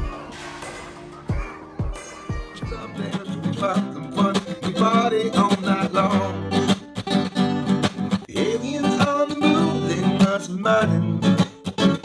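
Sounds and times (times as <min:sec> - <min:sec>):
strummed acoustic guitar song: 0:00.0 - 0:12.0.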